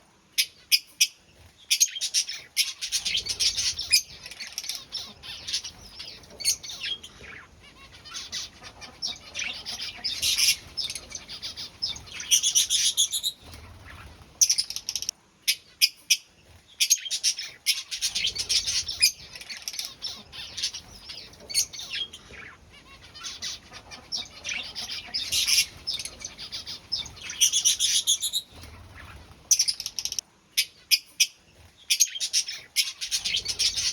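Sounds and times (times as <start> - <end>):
chicks chirping high-pitched: 0.4 - 33.9.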